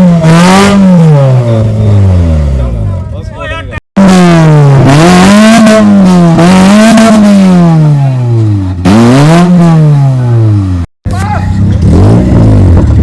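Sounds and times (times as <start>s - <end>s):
engine-like revving: 0.0s - 2.8s, 4.0s - 13.0s.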